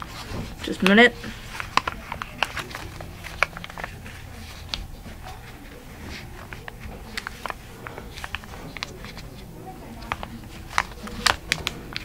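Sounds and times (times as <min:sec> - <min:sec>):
low steady hum: 0:00.0 - 0:12.0
paper being folded and creased: 0:00.0 - 0:12.0.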